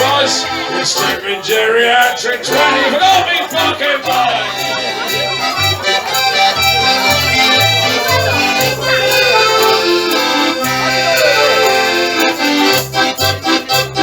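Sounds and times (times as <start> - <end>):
live folk band with accordion: 0.0 - 14.0.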